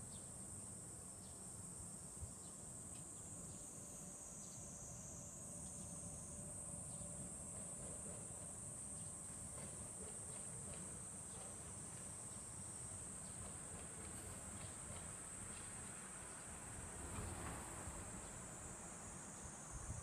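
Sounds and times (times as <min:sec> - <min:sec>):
high-pitched insect chorus trilling: 0:00.0 - 0:20.0.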